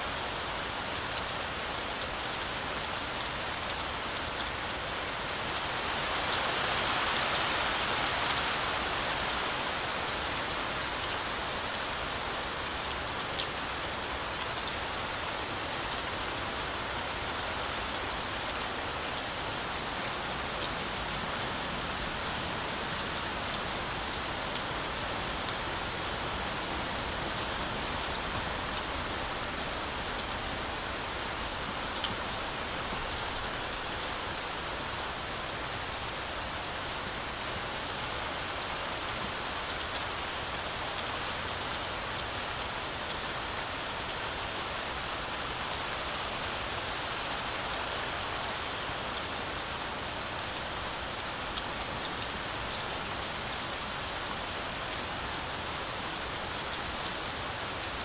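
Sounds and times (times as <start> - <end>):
heavy rain through forest canopy: 0.0 - 58.0.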